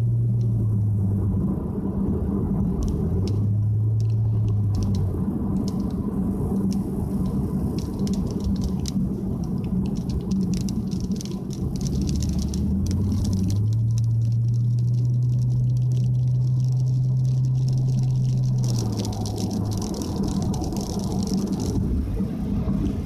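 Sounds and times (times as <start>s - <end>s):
car engine drone: 0.0s - 23.0s
water spray pattering on car: 1.4s - 23.0s.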